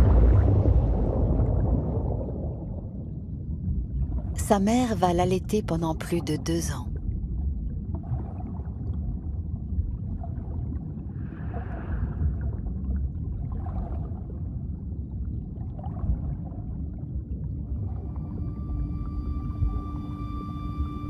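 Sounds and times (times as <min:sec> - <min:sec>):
underwater rumble: 0:00.0 - 0:04.6, 0:06.8 - 0:21.0.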